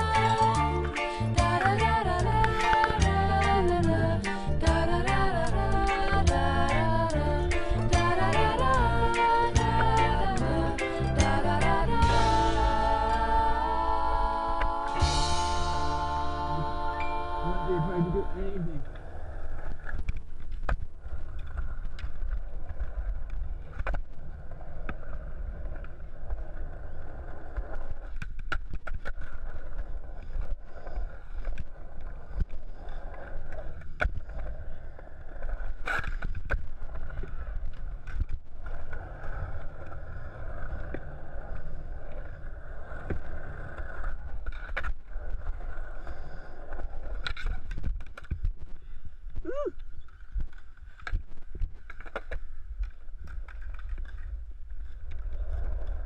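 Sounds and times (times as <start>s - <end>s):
skateboard wheels rolling on concrete: 0.0s - 56.0s.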